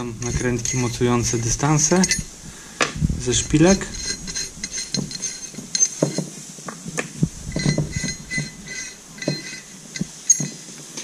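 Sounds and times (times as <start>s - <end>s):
metal nuts clicking and clinking: 0.0s - 2.3s, 3.6s - 6.8s, 7.5s - 11.0s.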